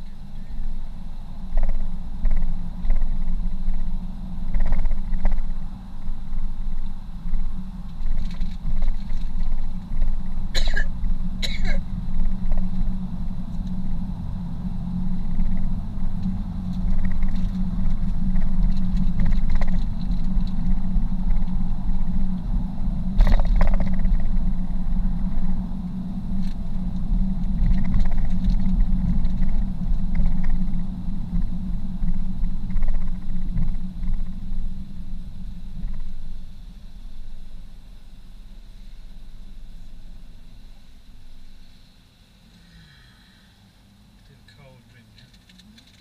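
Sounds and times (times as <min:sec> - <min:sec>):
car cabin rumble: 0:00.0 - 0:42.6.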